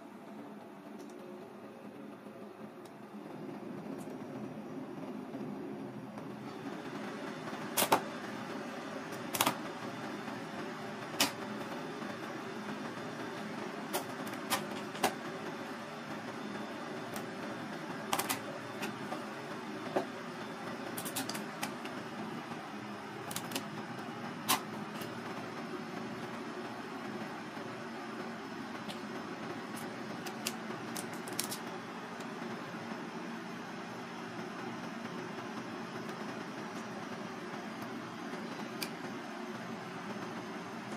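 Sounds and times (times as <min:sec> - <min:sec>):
steady background noise: 0:00.0 - 0:40.9.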